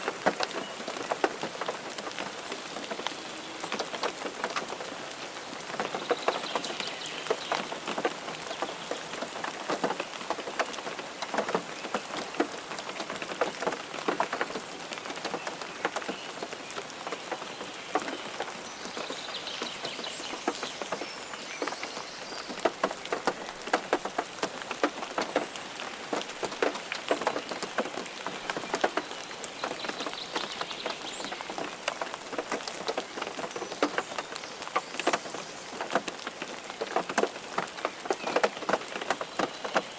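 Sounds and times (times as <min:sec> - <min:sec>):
rain pattering on a car: 0:00.0 - 0:39.9.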